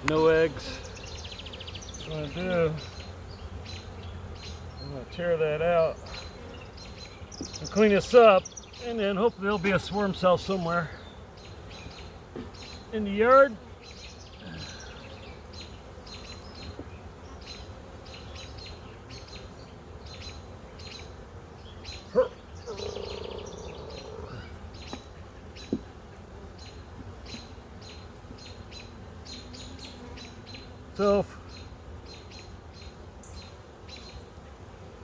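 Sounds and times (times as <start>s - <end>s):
honey bees buzzing: 0.0s - 35.0s.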